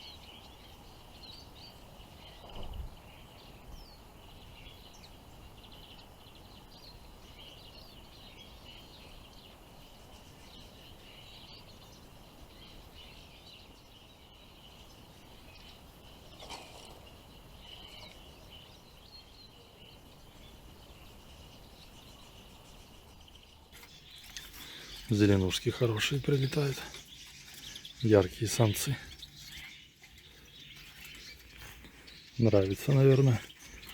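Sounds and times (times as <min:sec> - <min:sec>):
finches twittering: 0:00.0 - 0:33.9
outdoor background hiss: 0:00.0 - 0:33.9.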